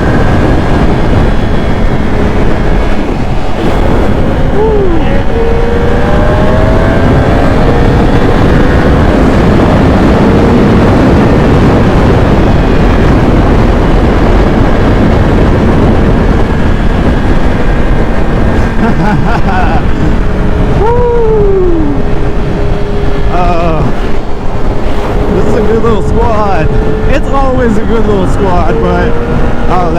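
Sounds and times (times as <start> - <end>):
motorcycle engine drone: 0.0 - 29.9
wind rushing over microphone: 0.0 - 29.9.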